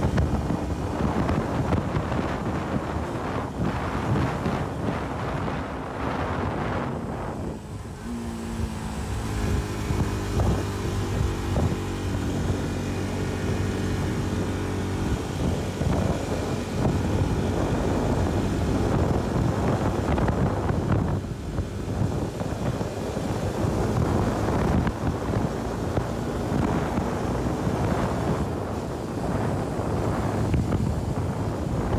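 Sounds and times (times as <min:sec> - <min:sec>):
motorcycle engine running: 0:00.0 - 0:31.9
wind buffeting microphone: 0:00.0 - 0:31.9.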